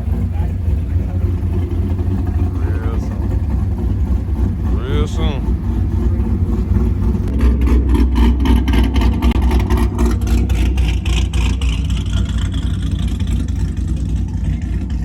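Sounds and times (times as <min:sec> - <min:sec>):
car exhaust rumbling: 0:00.0 - 0:15.0
exhaust crackles and pops: 0:00.0 - 0:15.0.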